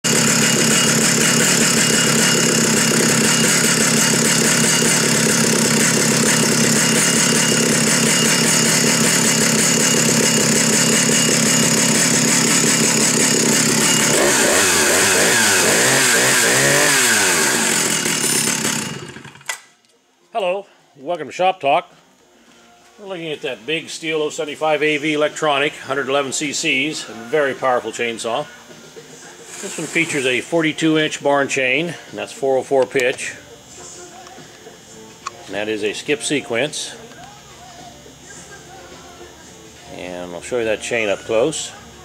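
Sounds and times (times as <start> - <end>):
chainsaw idling: 0.0 - 19.6, 23.2 - 28.5, 29.4 - 37.1, 40.0 - 41.8.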